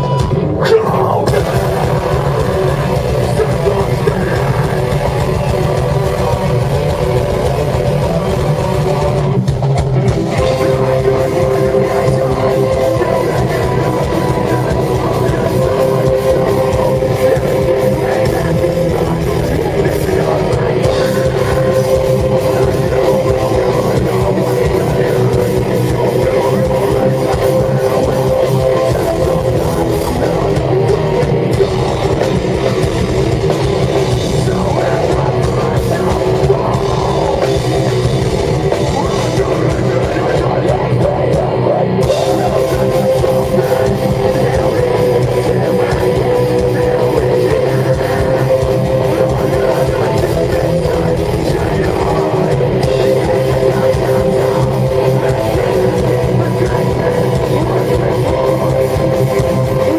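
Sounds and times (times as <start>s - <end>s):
distorted electric guitars: 0.0s - 59.9s
pounding drum kit: 0.0s - 59.9s.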